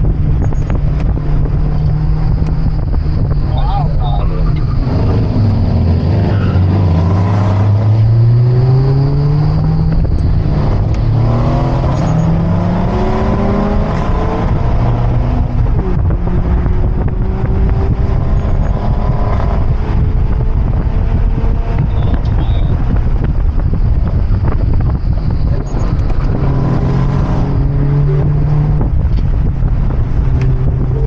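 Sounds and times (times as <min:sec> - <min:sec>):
car engine accelerating: 0:00.0 - 0:31.0
road and wind noise: 0:00.0 - 0:31.0.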